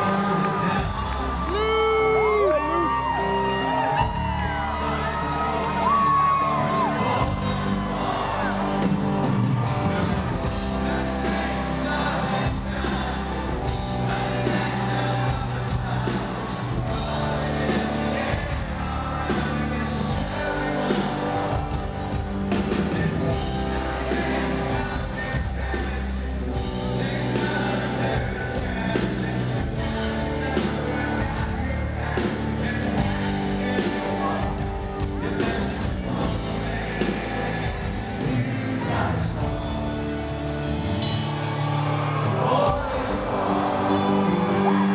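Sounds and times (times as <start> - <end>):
man singing: 0.0 - 9.0, 9.6 - 40.7, 42.0 - 44.9
crowd whooping: 0.0 - 26.6, 30.4 - 44.9
live country rock band: 0.0 - 44.9.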